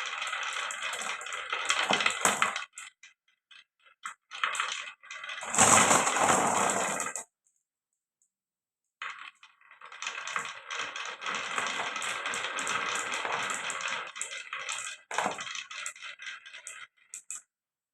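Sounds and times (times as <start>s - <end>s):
marbles rattling down a marble run: 0.0s - 7.3s, 9.0s - 17.5s.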